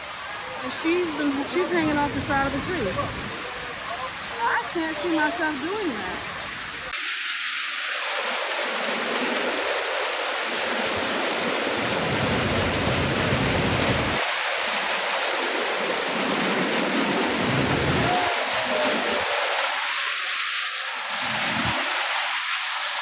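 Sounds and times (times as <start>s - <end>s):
waterfall splashing into creek: 0.0s - 23.0s.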